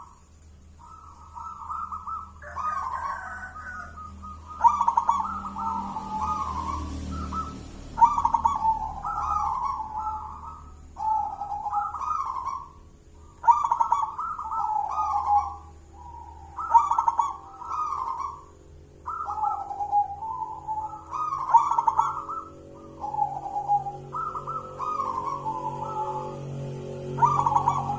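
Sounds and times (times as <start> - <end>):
dove cooing: 0.0 - 27.9.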